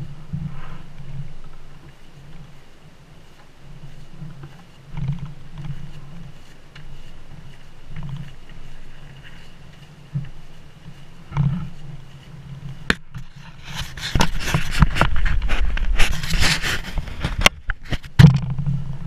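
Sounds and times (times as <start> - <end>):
footsteps on wooden footbridge: 0.0 - 18.4
canoe hull knocking and scraping: 0.0 - 19.0.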